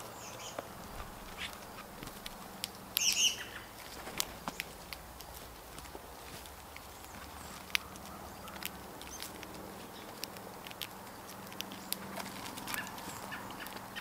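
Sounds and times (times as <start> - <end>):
birds pecking on leaf litter: 0.0 - 14.0.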